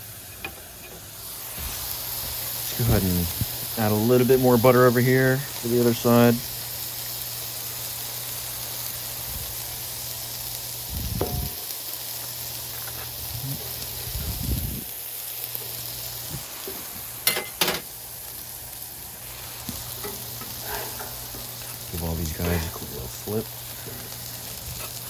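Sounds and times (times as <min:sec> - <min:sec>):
patties sizzling on griddle: 0:00.0 - 0:25.0.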